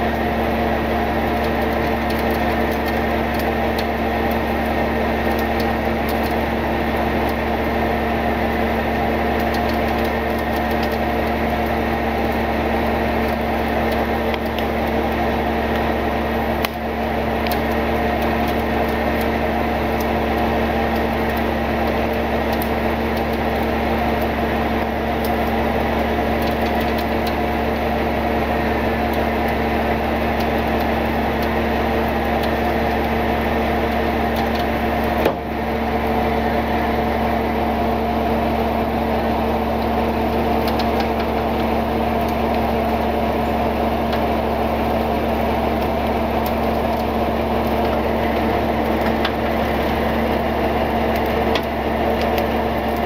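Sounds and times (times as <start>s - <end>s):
truck engine and winch droning: 0.0s - 53.0s.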